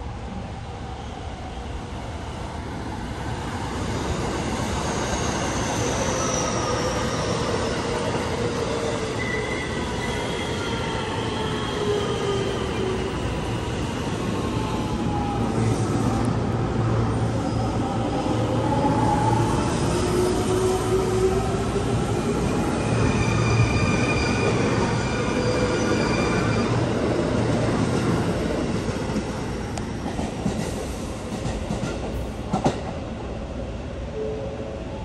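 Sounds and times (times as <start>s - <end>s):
train wheels rumbling on rails: 3.7s - 33.1s.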